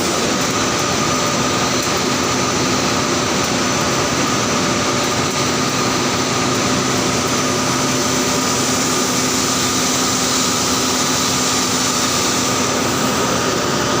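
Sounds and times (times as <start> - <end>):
loud industrial machinery din: 0.0 - 14.0.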